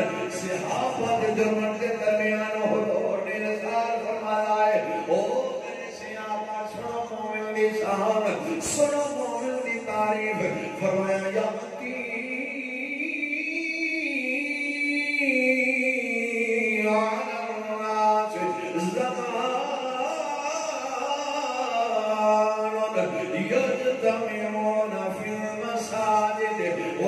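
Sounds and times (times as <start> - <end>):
man chanting into microphone: 0.0 - 27.0.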